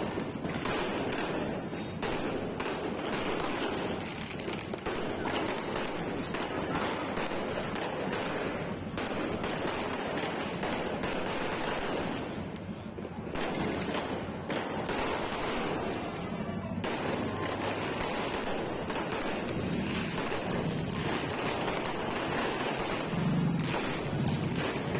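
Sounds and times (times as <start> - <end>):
fireworks popping and crackling: 0.0 - 24.9.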